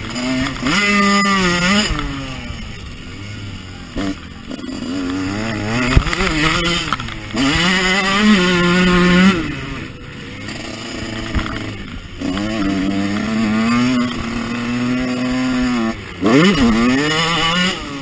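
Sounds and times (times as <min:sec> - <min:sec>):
motocross engine revving: 0:00.0 - 0:18.0.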